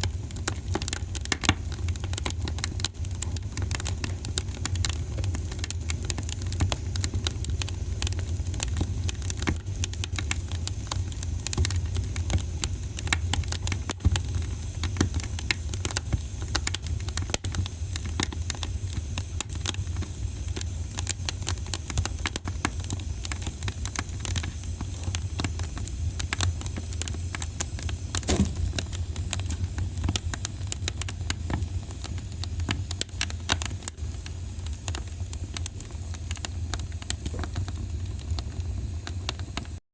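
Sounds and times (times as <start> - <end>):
fire crackling and popping: 0.0 - 39.8
fire rumbling: 0.0 - 39.8.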